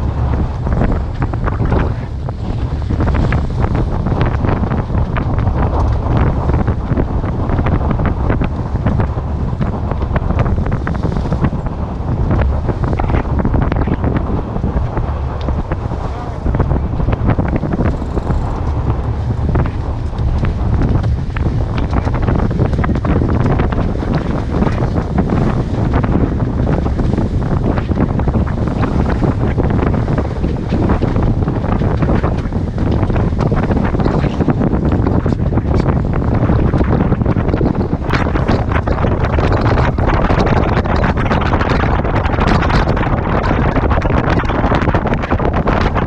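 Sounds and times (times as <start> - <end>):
water splashing against hull: 0.0 - 46.0
wind buffeting microphone: 0.0 - 46.0
short crackles: 0.2 - 46.0.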